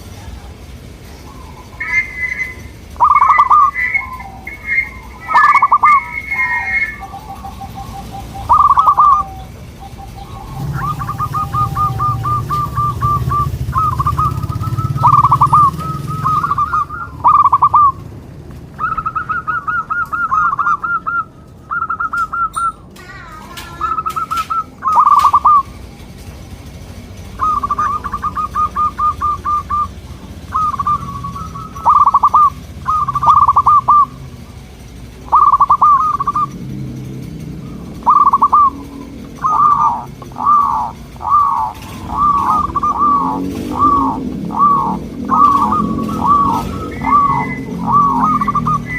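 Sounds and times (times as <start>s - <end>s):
dove cooing: 0.0s - 26.3s, 27.2s - 48.9s.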